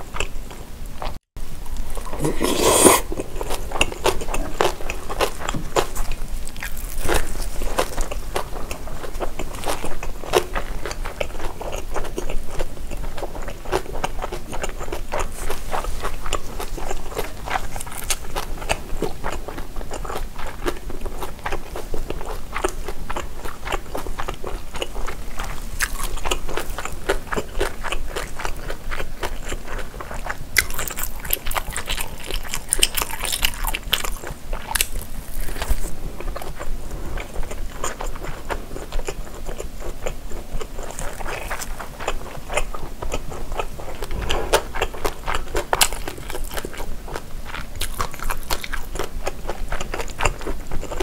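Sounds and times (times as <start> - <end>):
biting and chewing meat patty: 0.0 - 51.0.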